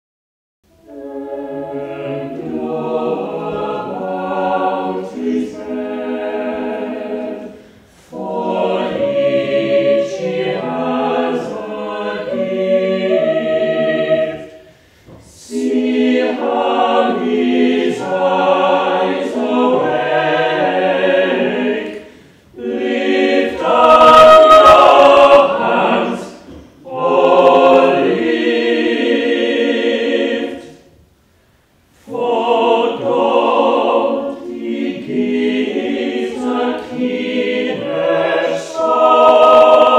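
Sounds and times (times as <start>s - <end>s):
chamber choir singing: 0.7s - 31.1s, 32.0s - 39.9s.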